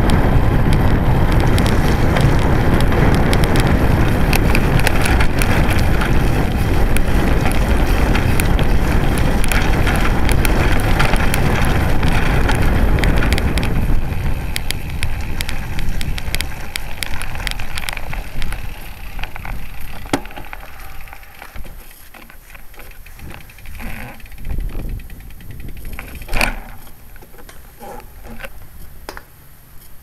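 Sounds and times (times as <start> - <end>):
wind buffeting microphone: 0.0 - 29.1
bike rattling clicks: 0.0 - 30.0
tyres rumbling over dirt: 0.0 - 30.0.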